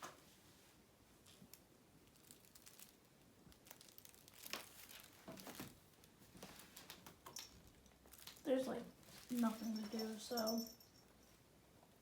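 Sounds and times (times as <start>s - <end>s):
faint rustling and clicks: 1.2s - 12.0s.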